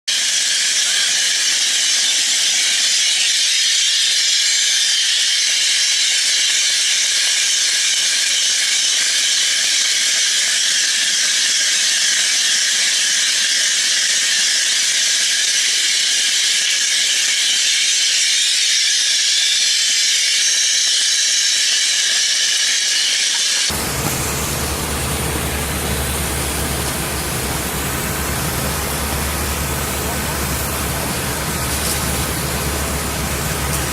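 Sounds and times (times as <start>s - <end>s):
high-pressure spray hiss: 0.1s - 33.9s.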